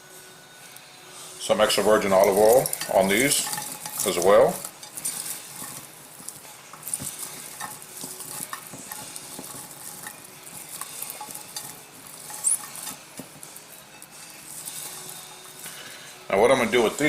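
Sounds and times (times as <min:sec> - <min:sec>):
asparagus spears clicking and rustling: 0:01.6 - 0:16.1.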